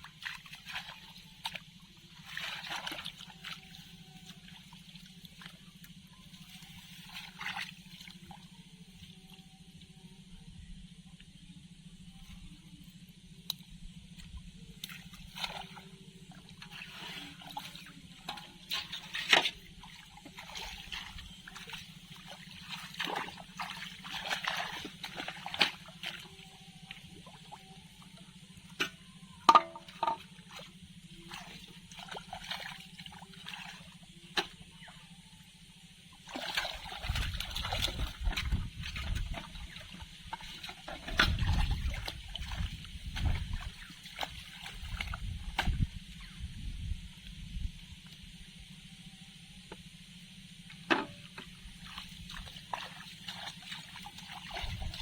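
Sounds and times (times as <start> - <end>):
water sloshing and splashing: 0.0 - 9.7, 13.4 - 46.4, 50.6 - 55.0
faint low hum: 0.0 - 55.0.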